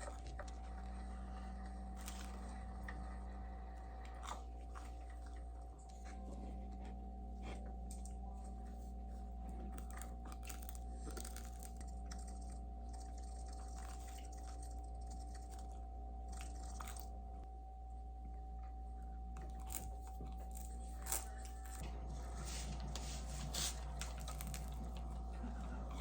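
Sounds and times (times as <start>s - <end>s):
faint steady tone: 0.0s - 22.2s
low hum: 0.0s - 26.0s.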